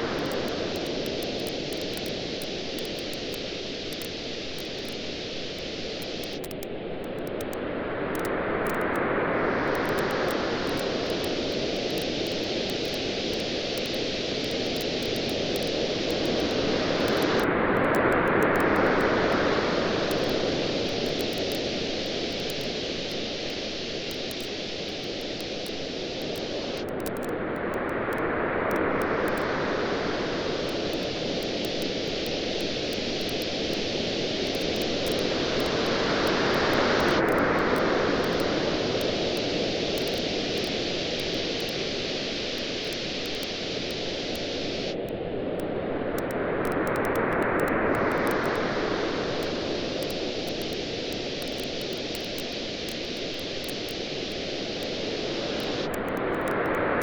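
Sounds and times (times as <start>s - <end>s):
waves washing on a beach: 0.0s - 7.0s, 7.6s - 57.0s.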